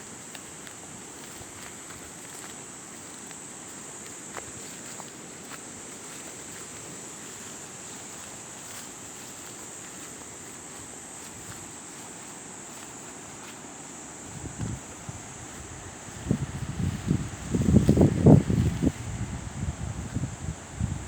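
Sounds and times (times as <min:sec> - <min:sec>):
steady background noise: 0:00.0 - 0:19.4
insects droning: 0:00.0 - 0:21.0.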